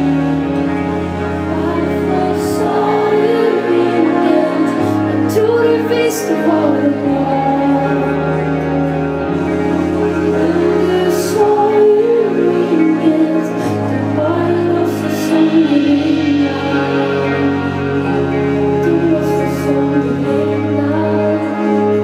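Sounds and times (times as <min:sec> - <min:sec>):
bass notes: 0:00.0 - 0:22.0
live pop band playing: 0:00.0 - 0:22.0
woman singing: 0:01.5 - 0:08.7, 0:10.2 - 0:22.0.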